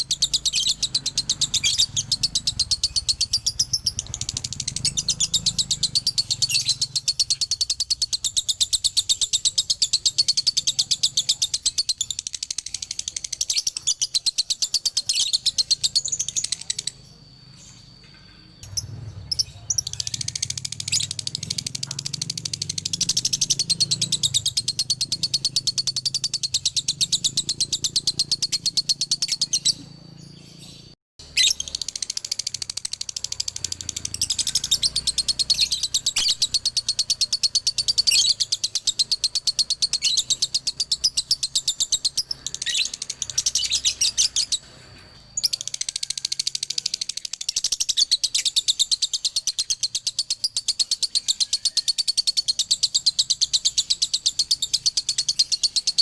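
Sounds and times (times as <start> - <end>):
lovebird chattering trill: 0.0 - 44.8, 45.4 - 56.0.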